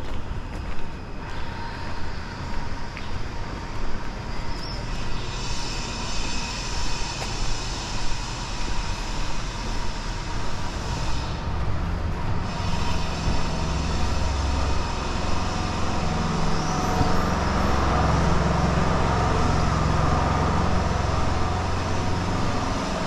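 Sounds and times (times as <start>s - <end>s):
vehicle engine rumble: 0.0s - 23.0s
hiss with high whine: 1.0s - 23.0s.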